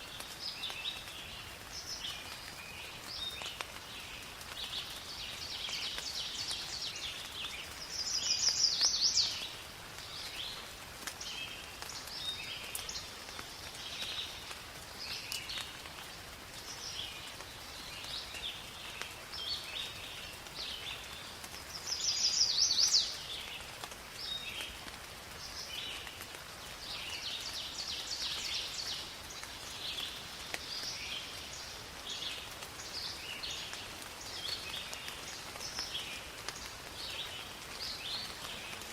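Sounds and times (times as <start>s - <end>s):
rain hissing: 0.0s - 38.9s
birds calling and singing: 0.1s - 15.9s, 16.6s - 38.9s.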